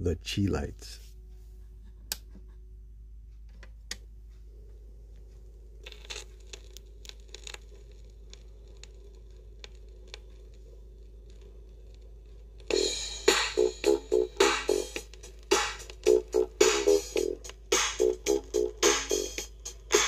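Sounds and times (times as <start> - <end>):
faint turntable hum: 0.0 - 20.0
record crackles and pops: 3.3 - 20.0.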